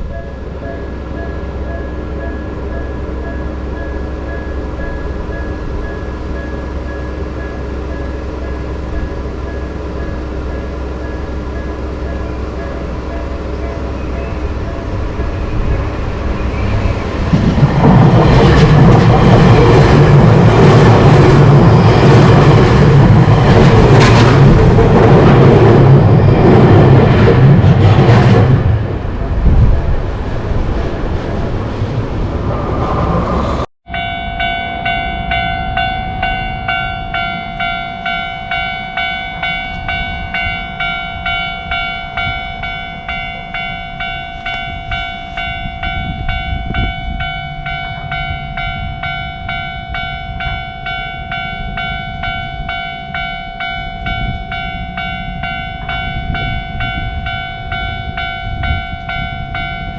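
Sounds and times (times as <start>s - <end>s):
level-crossing warning bell: 0.0s - 29.5s, 33.8s - 59.9s
train running past: 0.0s - 59.9s.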